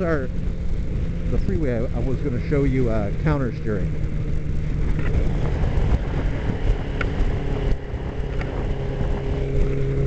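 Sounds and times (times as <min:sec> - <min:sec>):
motorcycle engine cruising: 0:00.0 - 0:10.0
wind rush on microphone: 0:00.0 - 0:10.0.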